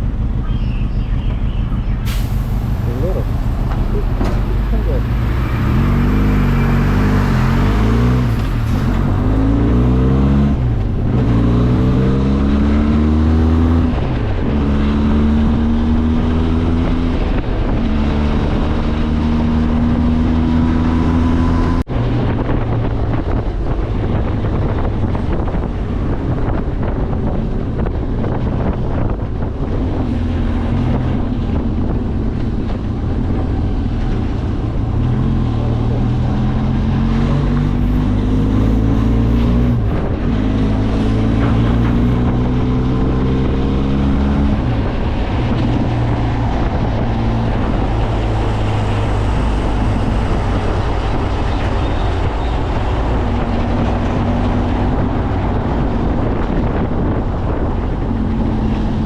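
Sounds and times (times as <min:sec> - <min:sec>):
motorcycle engine revving through gears: 0:02.7 - 0:59.0.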